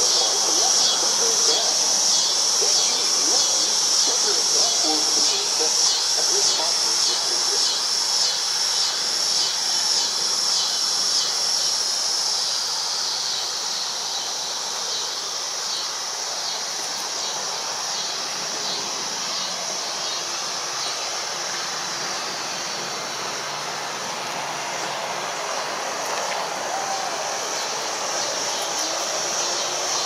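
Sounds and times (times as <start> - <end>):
distant city traffic hum: 0.0 - 30.0
insects pulsing buzz: 0.0 - 30.0.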